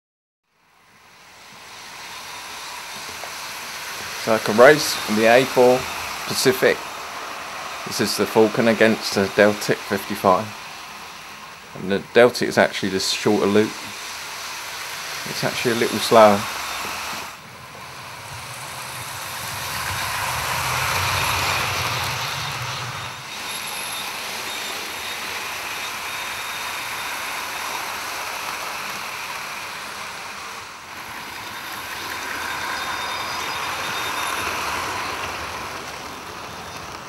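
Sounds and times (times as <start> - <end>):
recorded train noise through speakers: 0.5 - 37.0.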